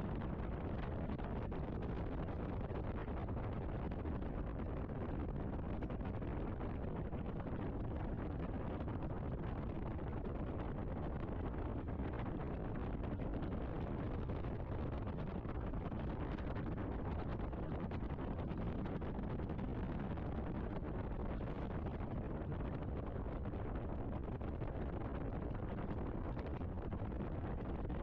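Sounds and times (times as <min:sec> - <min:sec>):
wind on microphone: 0:00.0 - 0:28.0.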